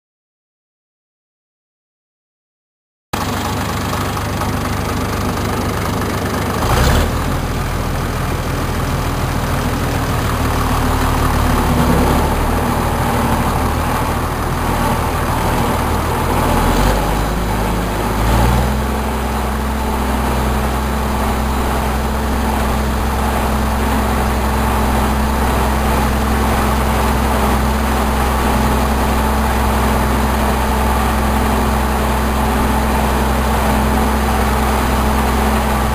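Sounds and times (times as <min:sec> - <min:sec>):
tractor engine running: 0:03.2 - 0:35.9.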